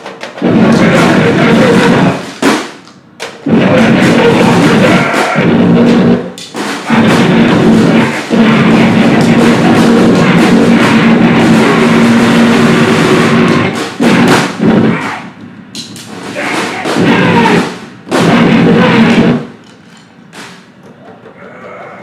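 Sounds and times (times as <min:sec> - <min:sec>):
distorted noise music: 0:00.0 - 0:22.0
drums: 0:00.0 - 0:22.0.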